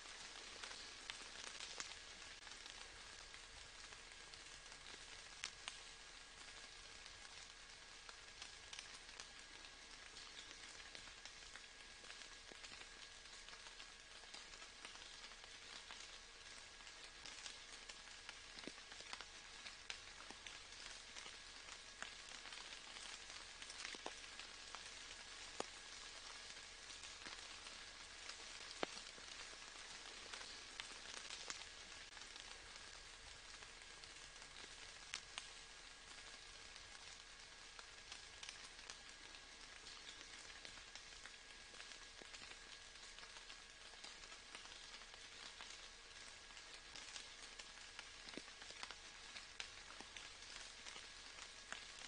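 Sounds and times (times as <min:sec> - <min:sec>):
faint steady rain hiss: 0:00.0 - 0:52.0
raindrop ticks: 0:00.0 - 0:52.0.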